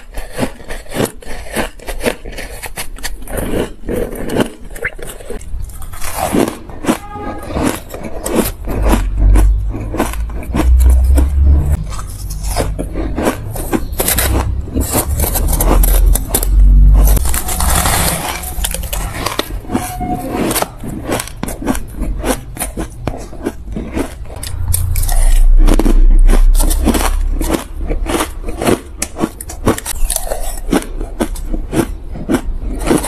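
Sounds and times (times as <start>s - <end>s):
metal spoon scraping ice in tub: 0.0s - 9.1s, 11.7s - 30.8s
ice crunching as chewed: 0.0s - 33.0s.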